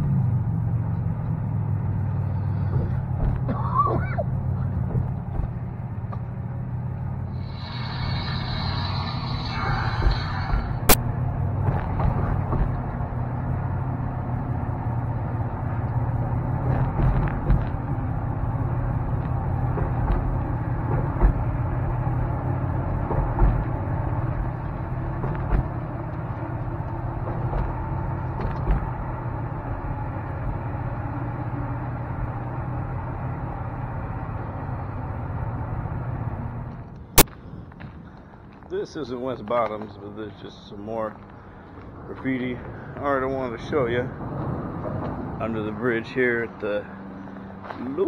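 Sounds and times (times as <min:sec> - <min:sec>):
car engine and road hum: 0:00.0 - 0:48.0.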